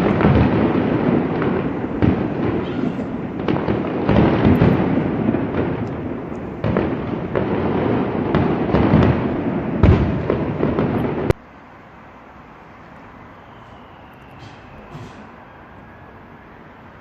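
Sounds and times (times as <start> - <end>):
heavy fireworks booms: 0.0 - 11.5, 12.9 - 17.0
fireworks bangs and crackling: 0.0 - 17.0.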